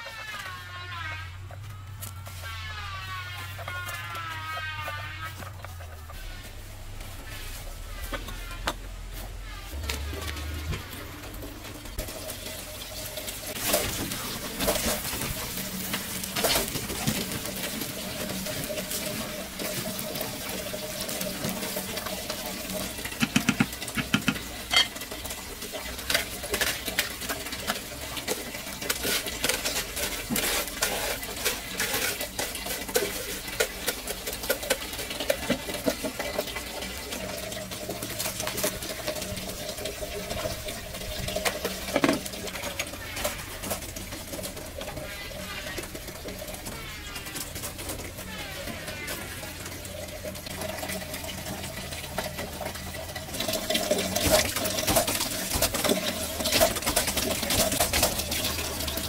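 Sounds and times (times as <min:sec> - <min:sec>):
water sounds: 0:00.0 - 0:59.0
pots and utensils clinking: 0:03.4 - 0:59.0.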